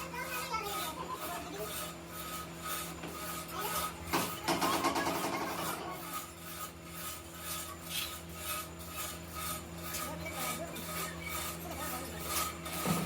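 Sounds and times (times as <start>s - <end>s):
regular rasping rub: 0.0s - 13.0s
workshop machine humming: 0.0s - 13.0s.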